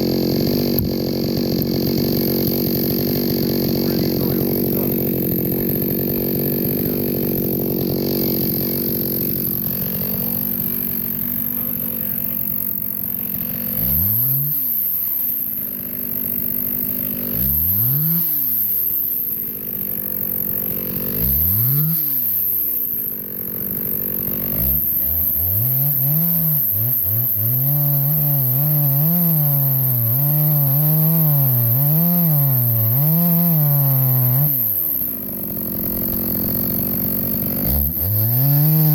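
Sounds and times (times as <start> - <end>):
chainsaw cutting log: 0.0 - 38.9
chainsaw engine revving: 0.0 - 38.9.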